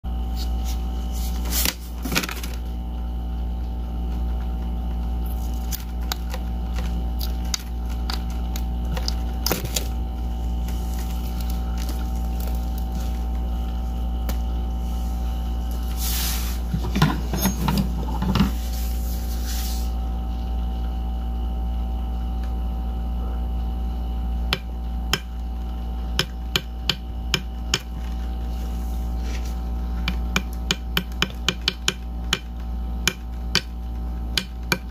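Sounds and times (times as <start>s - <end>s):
freezer hum: 0.0s - 34.9s.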